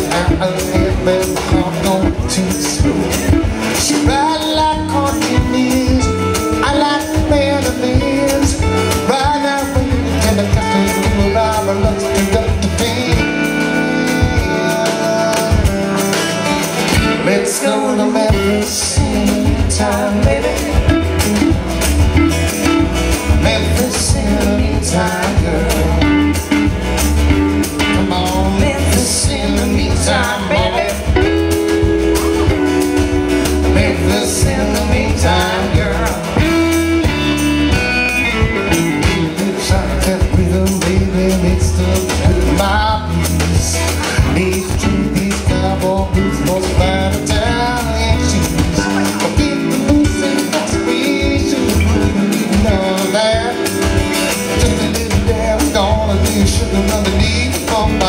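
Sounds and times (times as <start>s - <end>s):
electric guitar: 0.0s - 58.0s
live blues-rock band playing: 0.0s - 58.0s.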